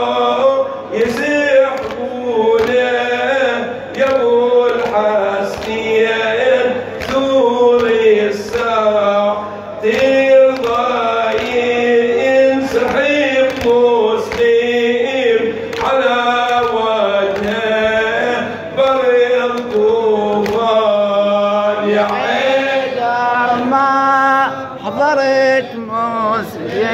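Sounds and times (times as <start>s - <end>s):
man chanting a lament: 0.0s - 26.9s.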